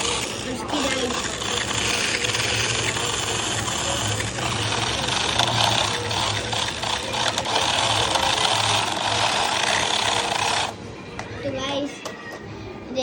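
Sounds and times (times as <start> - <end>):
toy car motor whining: 0.0 - 10.8.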